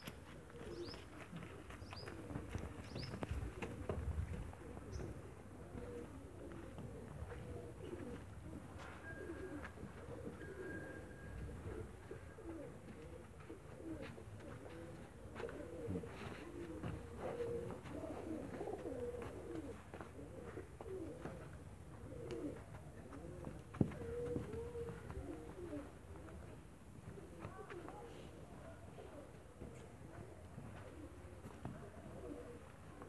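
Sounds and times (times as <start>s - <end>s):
pigeons cooing: 0.2s - 26.4s, 28.9s - 33.0s.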